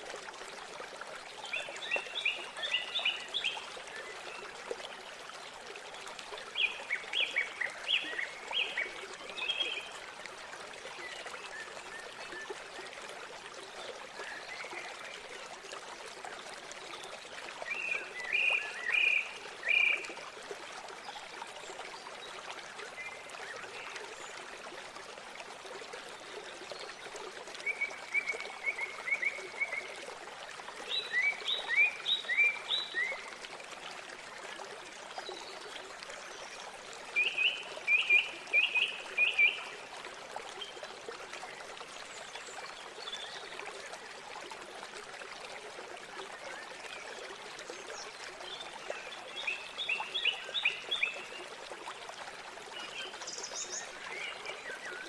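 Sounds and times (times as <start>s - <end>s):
flowing river water: 0.0s - 55.0s.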